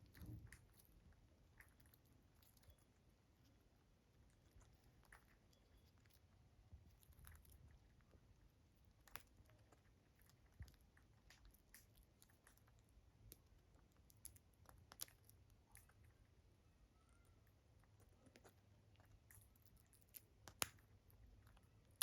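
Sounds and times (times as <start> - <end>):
parrot nibbling food: 0.0 - 22.0.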